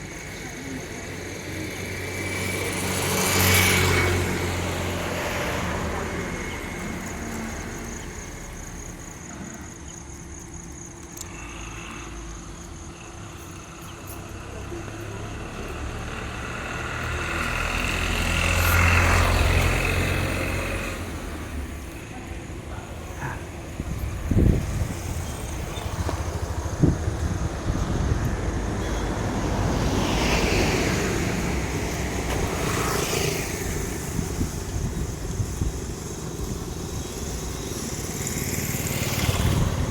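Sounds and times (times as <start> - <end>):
background traffic noise: 0.0 - 39.9
vehicles passing by: 0.0 - 39.9.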